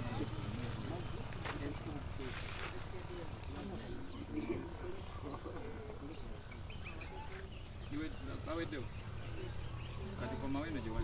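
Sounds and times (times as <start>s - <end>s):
people talking in background: 0.0s - 11.0s.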